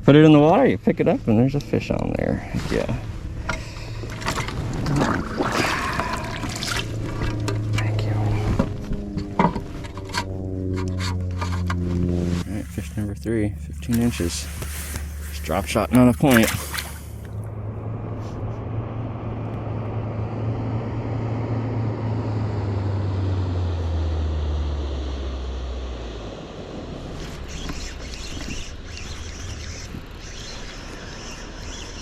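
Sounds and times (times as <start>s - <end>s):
motorboat engine droning: 0.0s - 32.0s.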